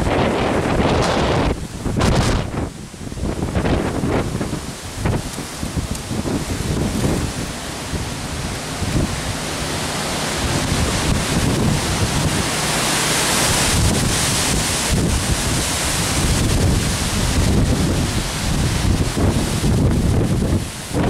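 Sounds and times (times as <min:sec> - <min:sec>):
strong gusting wind: 0:00.0 - 0:21.0
wind buffeting on microphone: 0:00.0 - 0:21.0.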